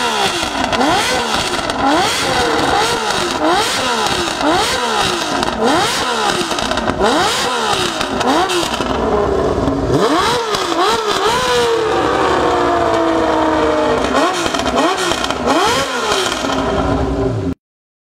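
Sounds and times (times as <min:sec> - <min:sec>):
motorcycle engine revving: 0:00.0 - 0:17.6.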